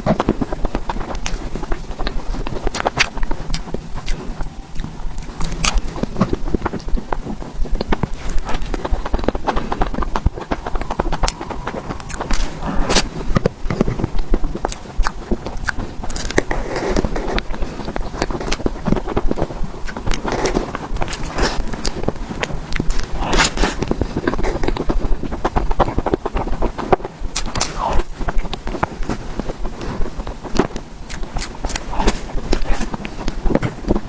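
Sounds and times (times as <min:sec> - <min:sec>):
chewing with wet mouth clicks: 0:00.1 - 0:28.9, 0:30.5 - 0:34.0.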